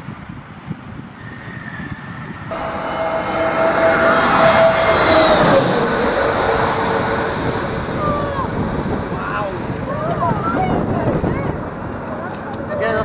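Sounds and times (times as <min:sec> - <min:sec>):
faint aircraft engine: 0:00.0 - 0:13.0
jet engines passing overhead: 0:00.1 - 0:13.0.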